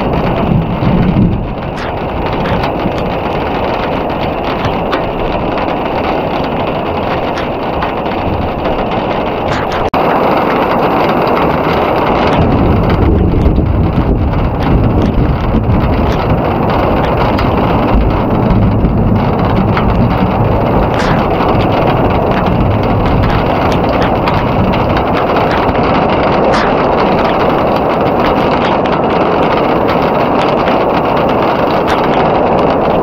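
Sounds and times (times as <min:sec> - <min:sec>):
heavy rain pouring: 0:00.0 - 0:33.0
low rumble: 0:00.0 - 0:33.0.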